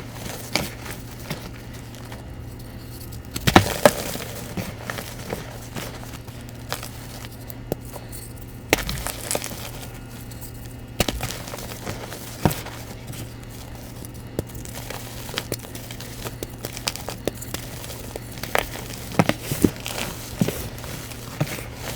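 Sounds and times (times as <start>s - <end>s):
low steady hum: 0.0s - 21.9s
powder blocks crumbling: 0.0s - 21.9s.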